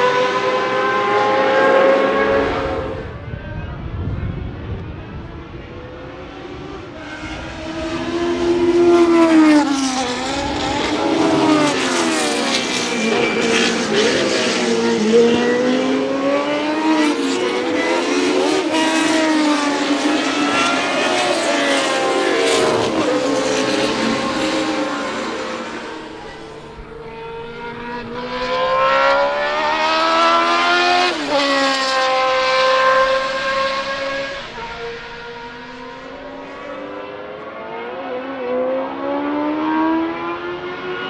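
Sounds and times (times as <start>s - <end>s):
race car engine passing: 6.1s - 41.0s
engine revving: 6.2s - 41.0s.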